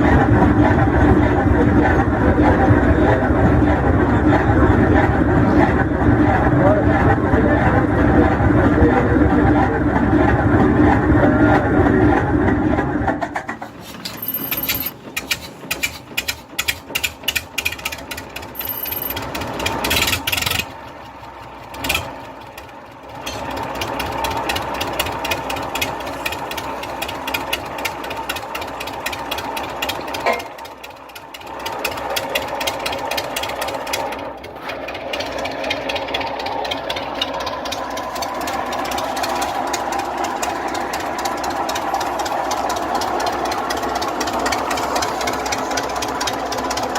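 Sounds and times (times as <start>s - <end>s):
old engine starting and running: 0.0s - 46.9s.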